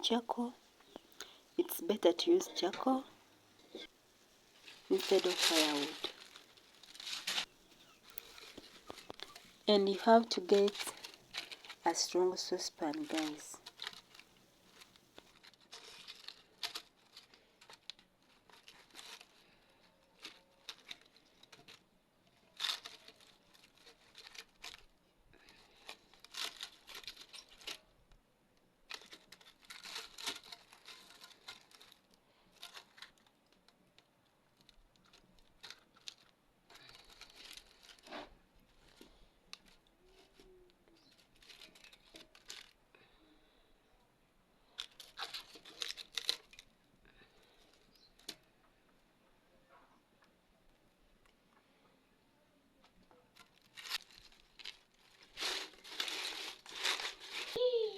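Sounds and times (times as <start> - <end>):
rustling and crinkling: 0.0 - 43.7, 44.6 - 49.0, 52.8 - 57.9.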